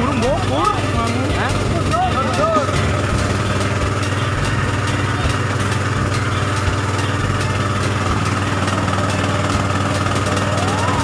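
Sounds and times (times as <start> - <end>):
faint regular ticking: 0.0 - 10.6
fogging machine engine droning: 0.0 - 11.0.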